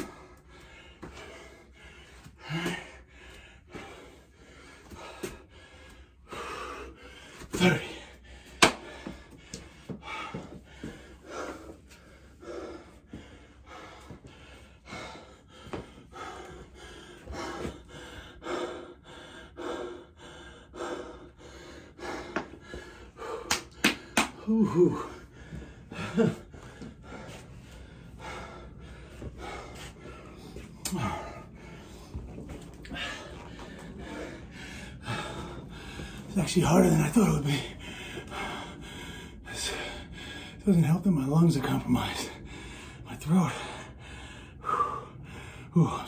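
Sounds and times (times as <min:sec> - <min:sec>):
man breathing hard: 0:00.0 - 0:46.0.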